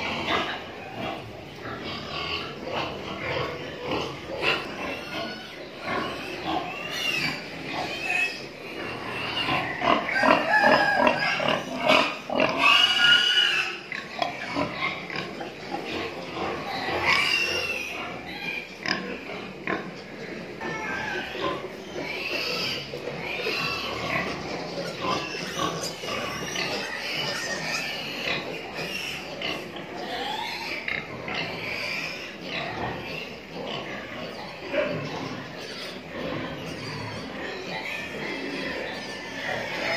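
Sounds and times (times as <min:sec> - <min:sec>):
pig grunting: 0:00.0 - 0:39.9
pig squealing: 0:00.0 - 0:39.9.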